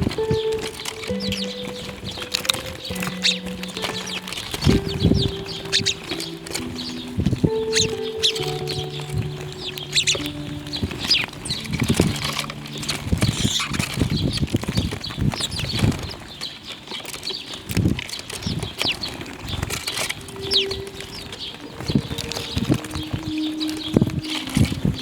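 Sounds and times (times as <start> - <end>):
birds chirping: 0.0 - 25.0
birds pecking at feed: 0.0 - 25.0
wings flapping: 0.0 - 25.0.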